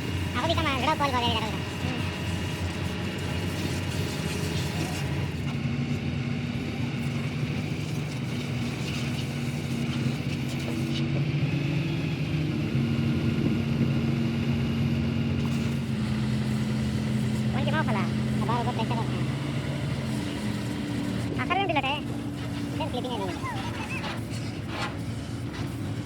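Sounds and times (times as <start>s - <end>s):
engine humming steadily: 0.0s - 26.0s.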